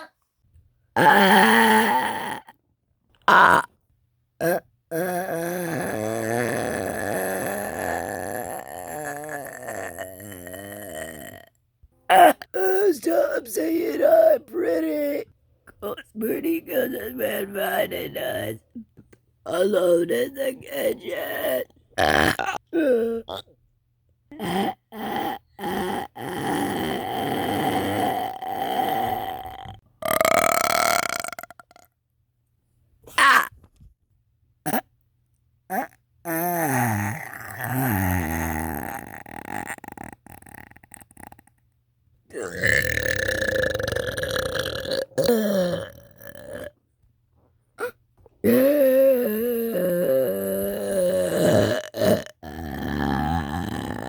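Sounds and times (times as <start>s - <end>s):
person burping: 1.0s - 2.6s, 3.2s - 3.7s, 4.4s - 23.6s, 24.3s - 31.8s, 33.1s - 33.5s, 35.7s - 41.5s, 42.3s - 46.8s, 47.8s - 54.0s.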